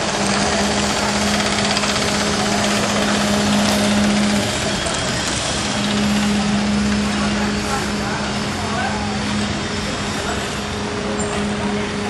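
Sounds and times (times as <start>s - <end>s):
machinery hum: 0.0s - 12.0s
rough mechanical noise: 0.0s - 12.0s.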